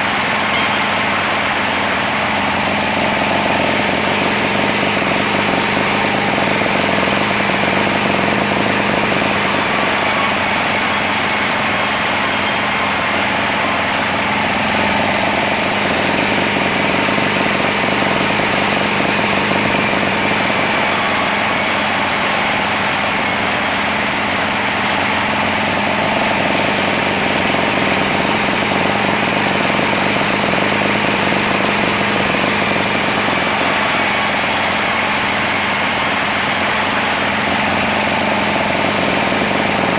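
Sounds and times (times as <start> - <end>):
constant mechanical whine: 0.0 - 39.9
sawmill machinery drone: 0.0 - 39.9.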